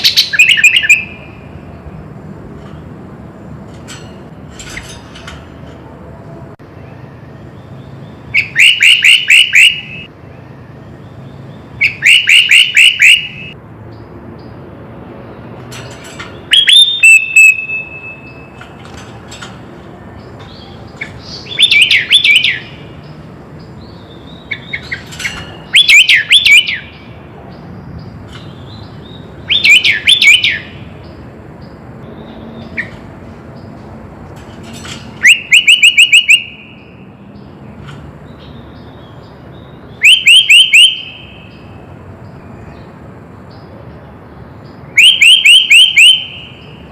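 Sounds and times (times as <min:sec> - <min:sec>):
bird chirping song: 0:00.0 - 0:02.0, 0:03.9 - 0:33.9, 0:34.7 - 0:46.9.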